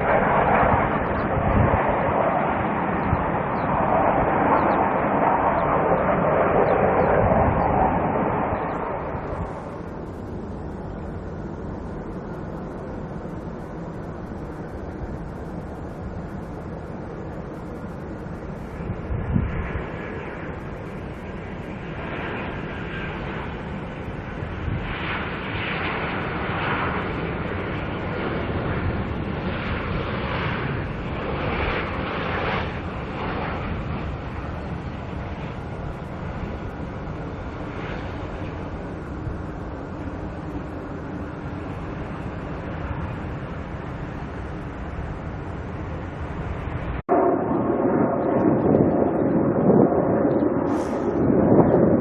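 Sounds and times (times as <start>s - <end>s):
jet engines rumbling: 0.0s - 52.0s.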